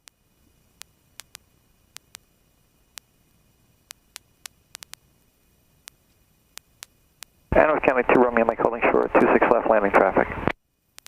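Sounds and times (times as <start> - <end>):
static clicks and pops: 0.0 - 11.0.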